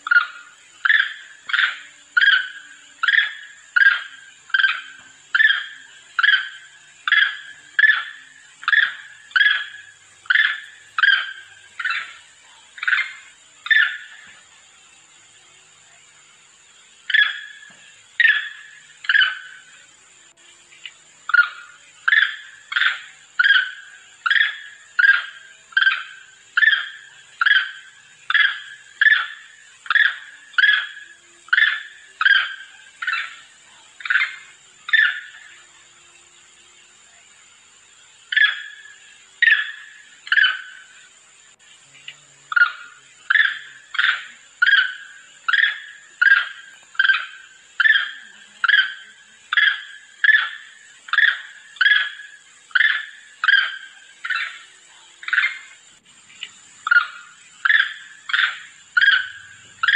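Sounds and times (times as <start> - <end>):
sharp macaque calls: 0.0 - 14.2, 17.1 - 17.6, 18.2 - 19.7, 21.3 - 35.6, 38.3 - 40.9, 42.5 - 55.8, 56.8 - 59.9.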